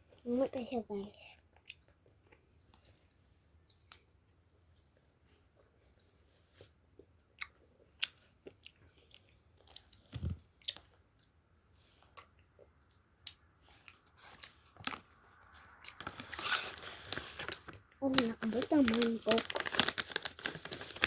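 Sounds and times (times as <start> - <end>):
child chewing candy: 0.0 - 21.0.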